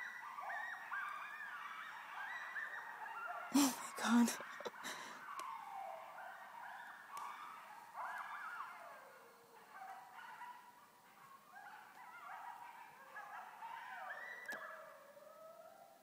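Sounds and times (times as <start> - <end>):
coyotes howling and yipping: 0.0 - 16.0.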